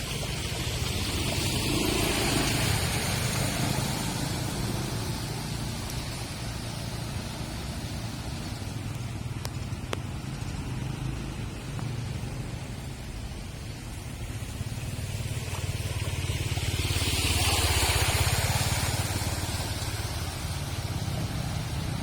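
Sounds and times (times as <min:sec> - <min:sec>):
street traffic rumble: 0:00.0 - 0:22.0
tyres hissing on wet road: 0:00.0 - 0:22.0.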